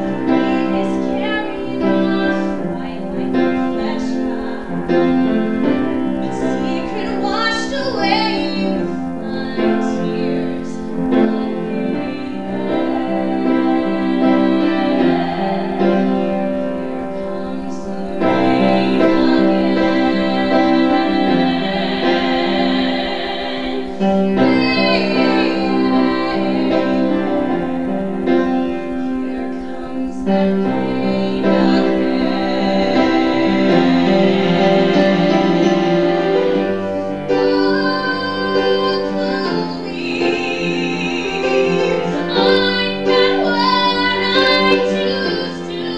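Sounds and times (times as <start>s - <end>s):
piano accompaniment: 0.0s - 45.9s
women singing a belted song: 0.0s - 45.9s.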